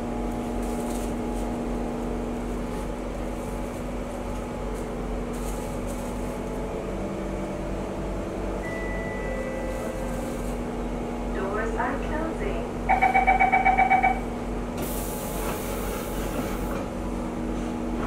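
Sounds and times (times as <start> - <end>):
train air conditioning hum: 0.0 - 18.0.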